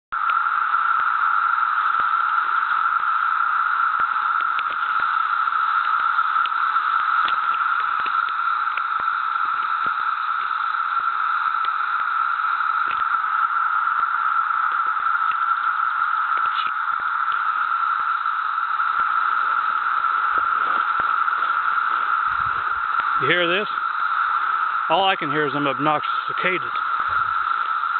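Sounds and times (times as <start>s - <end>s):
cicadas droning: 0.1s - 27.9s.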